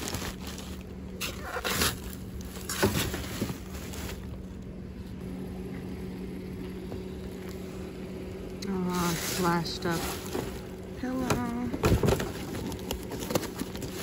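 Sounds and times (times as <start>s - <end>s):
steady low hum: 0.0s - 14.0s
trash rustling and scraping: 0.0s - 14.0s.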